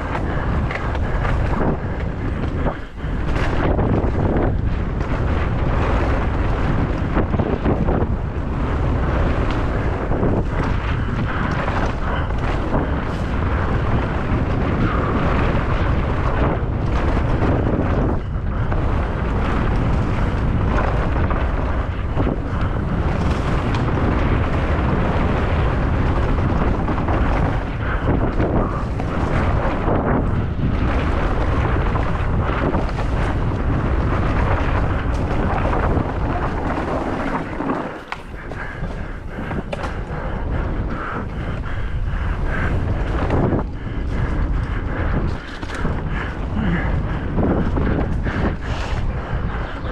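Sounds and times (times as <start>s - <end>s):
bike rattling over rough ground: 0.0s - 49.9s
wind buffeting microphone: 0.0s - 49.9s.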